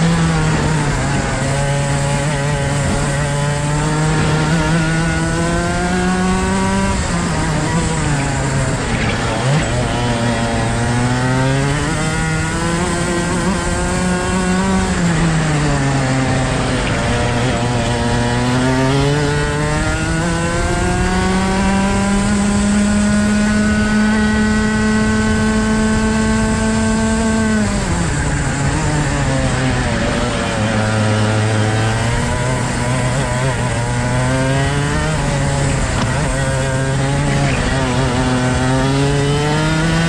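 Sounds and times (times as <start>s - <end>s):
kart engine revving: 0.0s - 40.0s.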